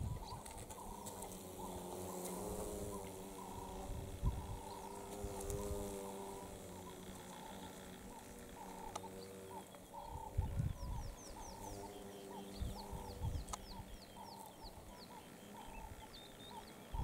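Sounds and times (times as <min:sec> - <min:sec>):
beetles buzzing in flight: 0:00.0 - 0:17.0.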